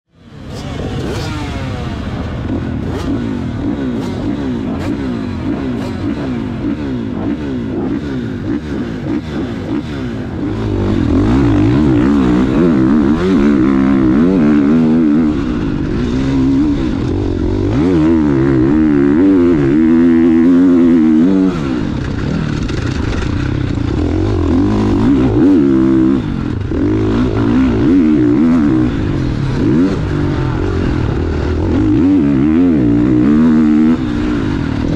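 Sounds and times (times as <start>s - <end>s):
motocross bike engine revving: 0.2s - 34.9s.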